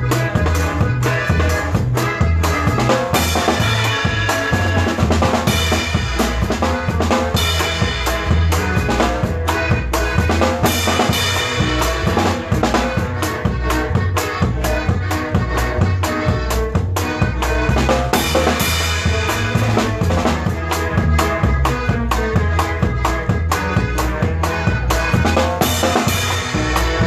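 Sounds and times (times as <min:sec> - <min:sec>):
band playing: 0:00.0 - 0:27.0
drum kit beat: 0:00.0 - 0:27.0
walking bass line: 0:00.0 - 0:27.0.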